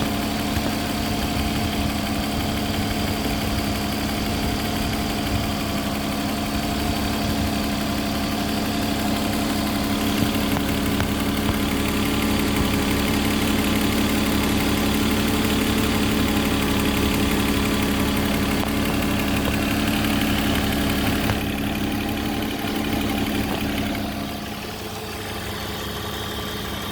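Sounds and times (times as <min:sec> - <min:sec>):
exhaust leak ticking: 0:00.0 - 0:26.8
car engine idling: 0:00.0 - 0:26.9.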